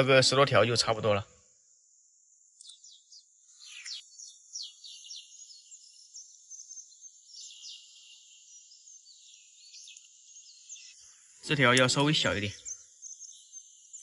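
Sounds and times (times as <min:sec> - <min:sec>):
small birds chirping and singing: 0:00.0 - 0:14.0.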